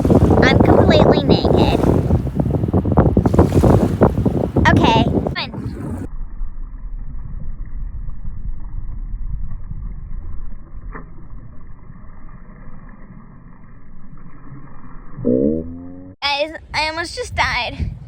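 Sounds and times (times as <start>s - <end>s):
muffled wind and surf rumble: 0.0s - 13.6s, 16.2s - 18.0s.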